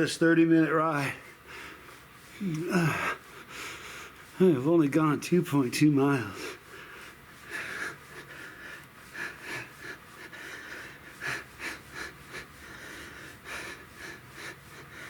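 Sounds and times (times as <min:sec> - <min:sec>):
man breathing hard: 0:00.9 - 0:04.6, 0:06.1 - 0:15.0.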